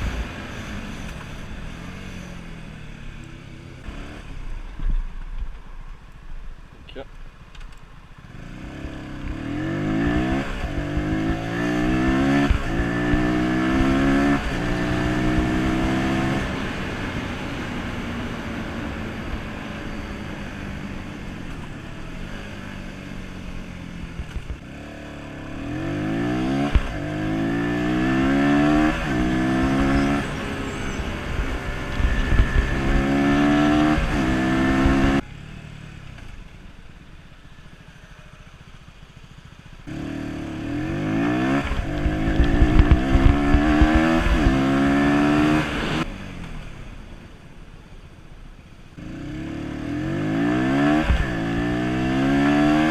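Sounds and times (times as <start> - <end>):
motorcycle engine accelerating: 0.0 - 6.6, 7.5 - 52.9.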